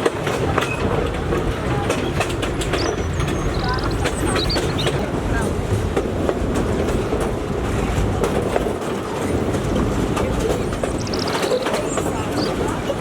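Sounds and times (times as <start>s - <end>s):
train rumbling on track: 0.0s - 13.0s
wheels clicking over rail joints: 0.0s - 13.0s.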